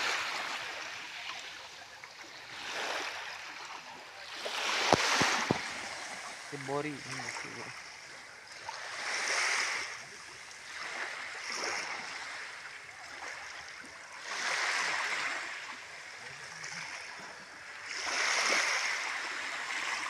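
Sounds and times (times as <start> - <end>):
sea waves washing onto shore: 0.0 - 20.0.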